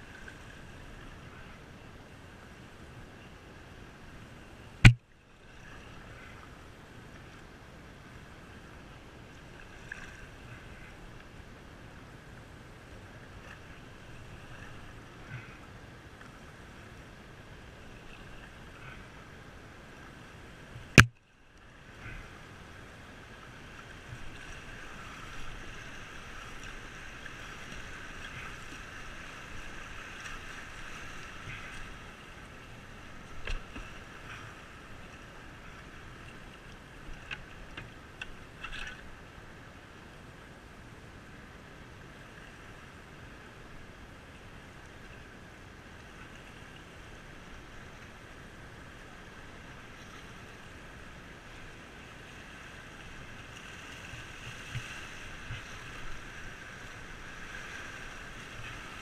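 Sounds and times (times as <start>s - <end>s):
river water rushing around canoe: 0.0s - 59.0s.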